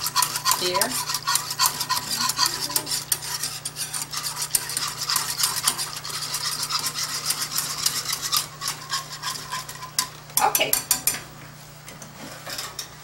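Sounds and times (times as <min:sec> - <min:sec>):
whisk scraping metal saucepan: 0:00.0 - 0:11.2, 0:12.2 - 0:13.0.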